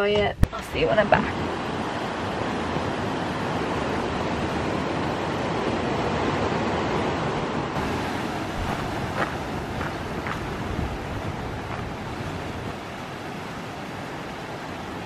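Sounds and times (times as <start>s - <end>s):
wind on microphone: 0.0s - 15.0s
waves breaking on rocky shore: 1.0s - 15.0s.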